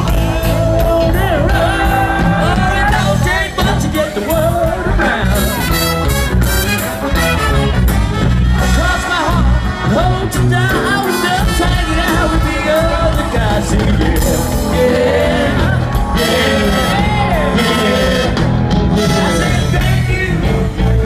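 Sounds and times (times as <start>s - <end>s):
lead vocals singing: 0.0s - 5.6s, 8.8s - 21.0s
live rock band playing: 0.0s - 21.0s.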